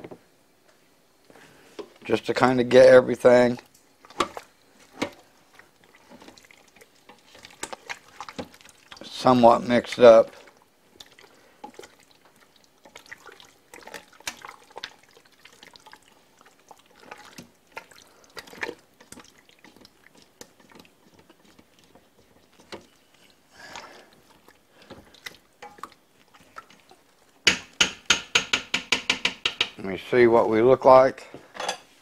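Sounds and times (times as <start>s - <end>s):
wet stirring: 1.3s - 29.8s.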